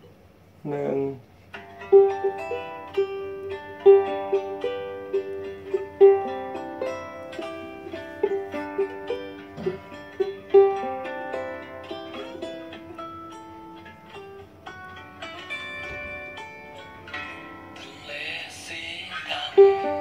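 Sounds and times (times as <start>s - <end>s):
ukulele melody: 1.4s - 20.0s.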